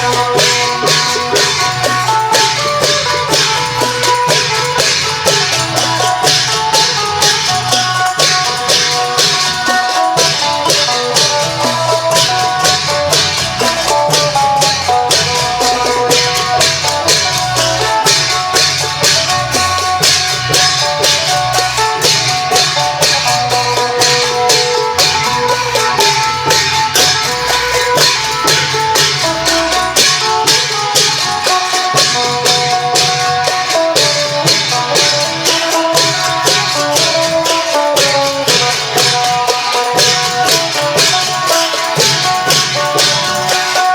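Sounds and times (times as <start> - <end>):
jangling cymbal percussion: 0.0 - 43.9
steady drum beat: 0.0 - 43.9.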